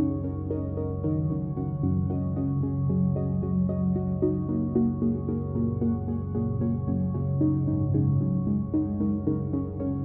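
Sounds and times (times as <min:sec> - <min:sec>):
calm electronic music: 0:00.0 - 0:10.0.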